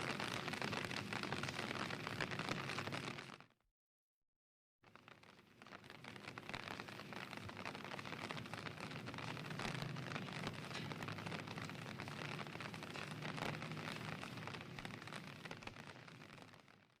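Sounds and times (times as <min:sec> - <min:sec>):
rain pattering: 0:00.0 - 0:03.4, 0:04.9 - 0:17.0.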